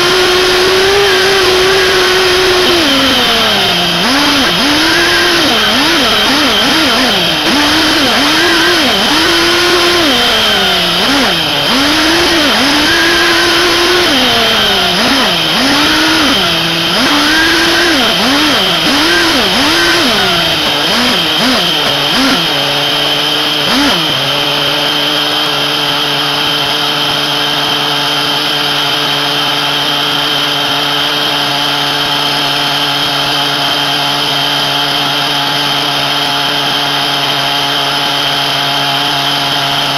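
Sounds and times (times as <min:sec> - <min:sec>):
nitro engine revving: 0:00.0 - 0:39.9.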